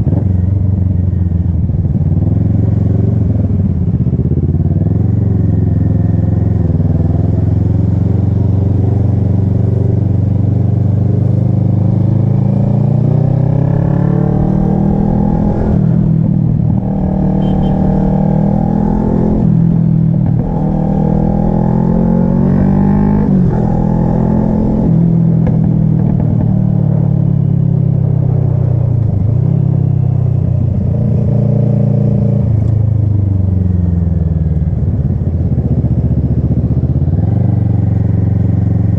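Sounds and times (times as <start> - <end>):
motorcycle engine revving: 1.9 - 38.9.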